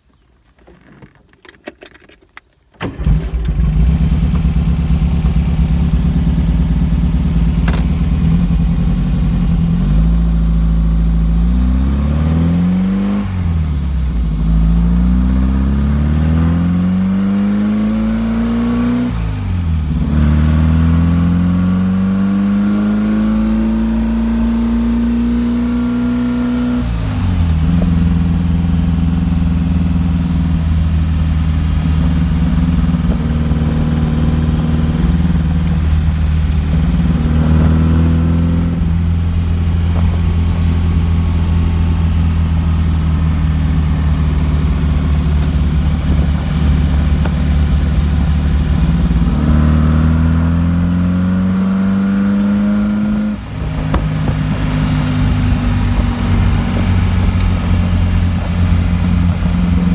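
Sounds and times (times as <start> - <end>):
car engine revving: 2.8 - 59.9.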